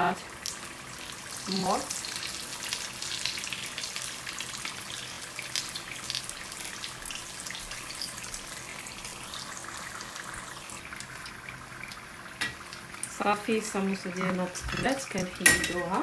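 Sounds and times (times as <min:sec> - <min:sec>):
deep-frying sizzle with pops: 0:00.0 - 0:16.0.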